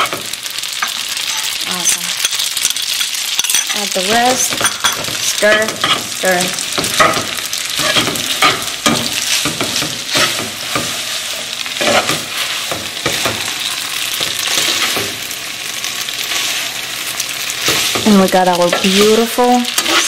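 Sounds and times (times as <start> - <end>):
pasta sizzling in a skillet: 0.0 - 20.0
tongs clicking and scraping pan: 0.0 - 20.0.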